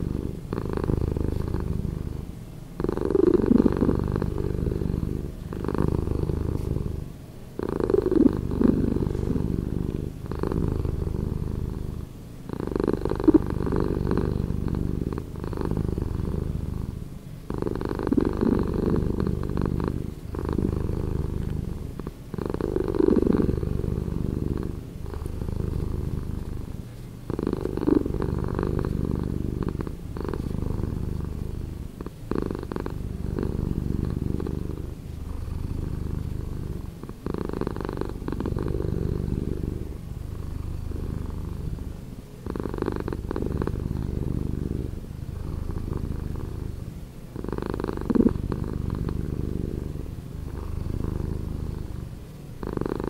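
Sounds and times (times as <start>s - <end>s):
cat purring: 0.0s - 53.0s.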